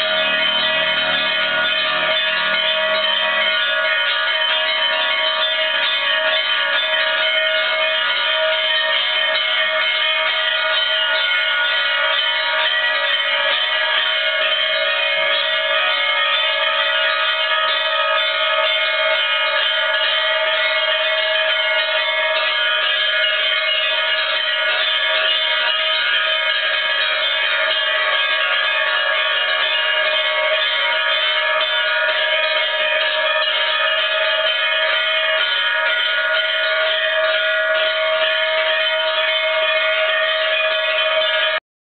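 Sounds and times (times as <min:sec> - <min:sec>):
many bells ringing: 0:00.0 - 0:41.6.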